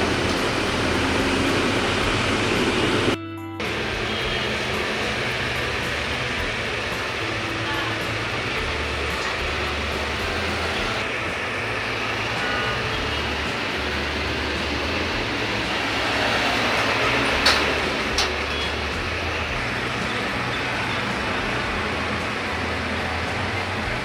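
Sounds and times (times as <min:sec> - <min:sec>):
large vehicle passing: 0:00.0 - 0:24.0
roadside traffic: 0:00.0 - 0:24.0.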